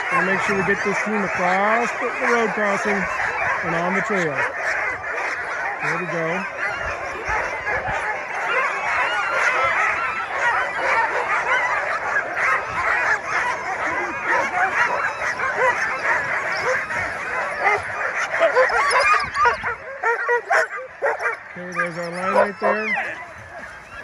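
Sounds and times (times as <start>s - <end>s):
sled dogs barking and yelping: 0.0s - 24.0s.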